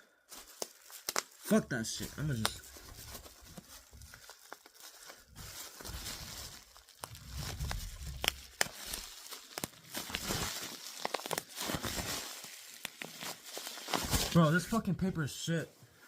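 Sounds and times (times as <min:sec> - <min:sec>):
paper tearing and crumpling: 0:00.5 - 0:14.8.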